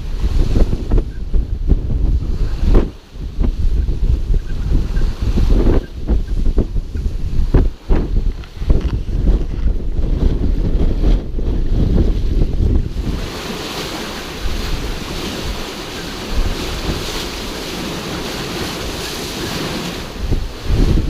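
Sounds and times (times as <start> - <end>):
sea water and waves rushing: 0.0 - 21.0
wind buffeting microphone: 0.0 - 21.0.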